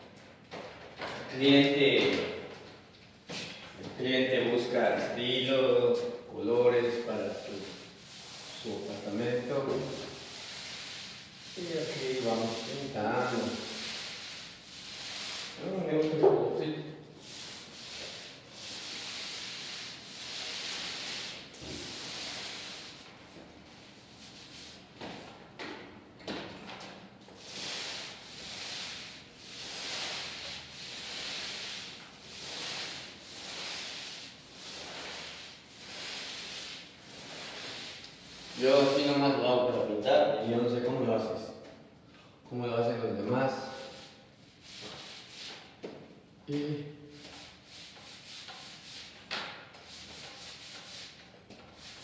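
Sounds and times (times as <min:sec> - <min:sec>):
paint roller rubbing on ceiling: 0:04.1 - 0:25.0, 0:27.3 - 0:41.4, 0:42.8 - 0:45.9, 0:46.8 - 0:52.0.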